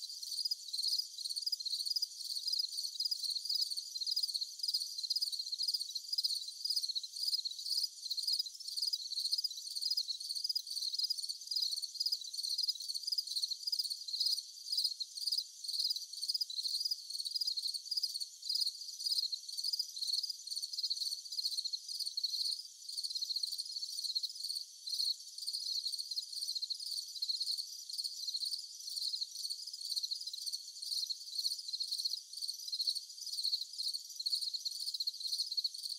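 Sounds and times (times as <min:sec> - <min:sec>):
insects chirping: 0:00.0 - 0:35.9.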